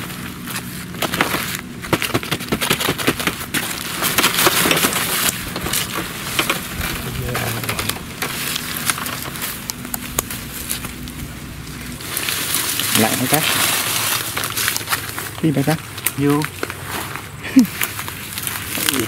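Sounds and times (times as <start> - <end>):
plastic sack crinkling: 0.4 - 19.0.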